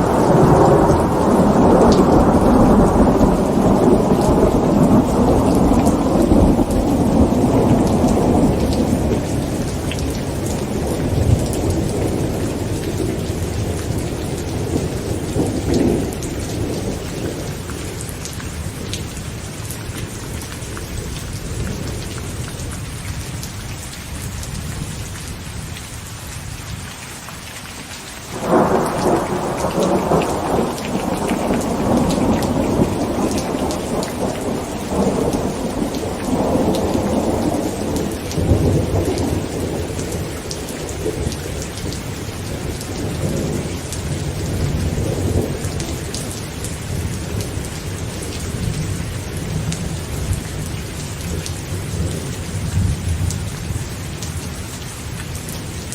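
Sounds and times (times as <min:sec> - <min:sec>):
thunder clap and rumble: 0:00.0 - 0:20.1, 0:28.3 - 0:53.8
heavy rain on a tent: 0:00.0 - 0:55.9.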